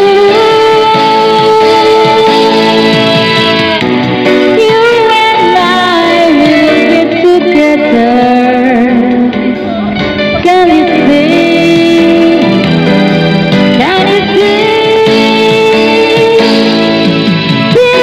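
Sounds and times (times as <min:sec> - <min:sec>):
woman singing into microphone: 0:00.0 - 0:13.0, 0:13.6 - 0:18.0
karaoke backing music with guitar: 0:00.0 - 0:18.0.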